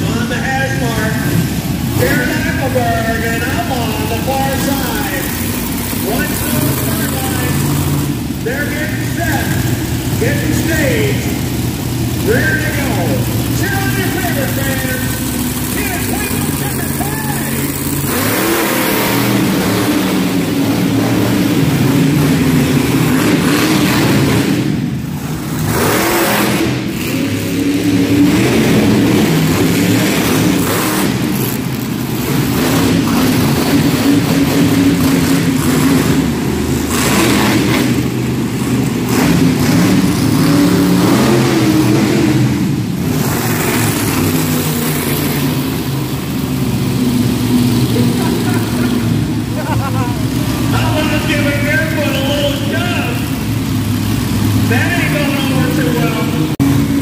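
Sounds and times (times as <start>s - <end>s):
truck engines revving: 0.0s - 57.0s.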